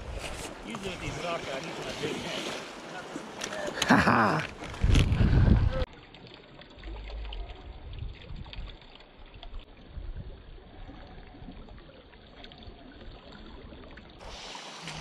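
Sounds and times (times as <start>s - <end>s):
river water running and trickling: 0.0s - 15.0s.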